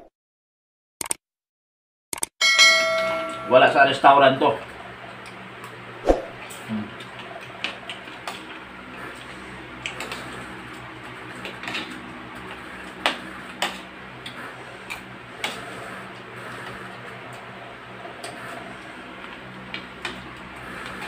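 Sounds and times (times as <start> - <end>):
steady low hum: 2.4 - 21.0.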